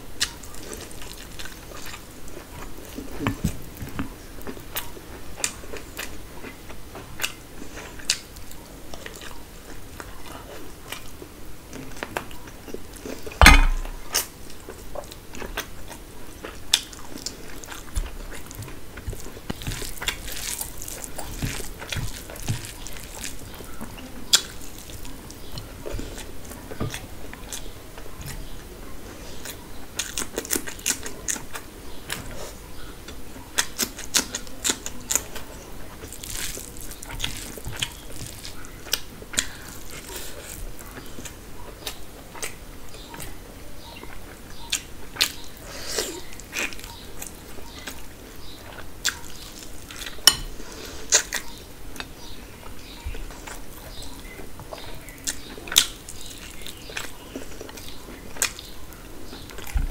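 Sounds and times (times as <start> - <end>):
chewing and lip smacks: 0.2 - 28.7, 29.3 - 59.9.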